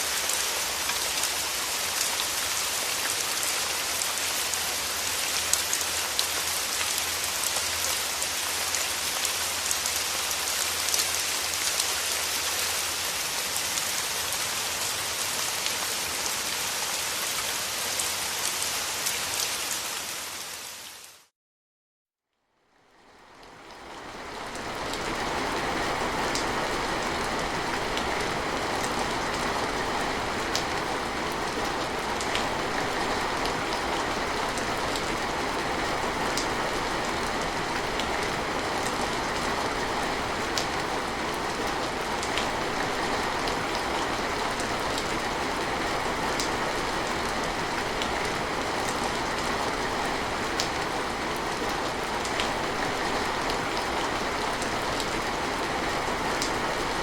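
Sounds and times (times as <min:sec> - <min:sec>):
steady rain falling: 0:00.0 - 0:21.3, 0:22.6 - 0:57.0.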